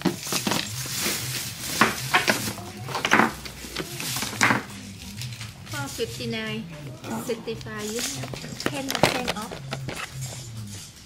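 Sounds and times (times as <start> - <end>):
bottles and packets clinking: 0.0 - 5.9, 7.6 - 11.0.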